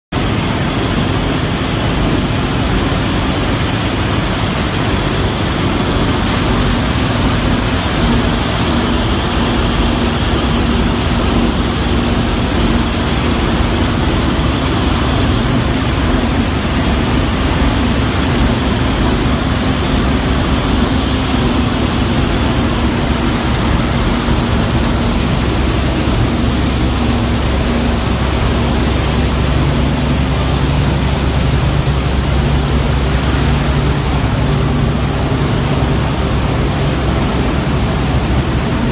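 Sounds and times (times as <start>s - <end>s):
loud machinery noise: 0.1s - 38.9s.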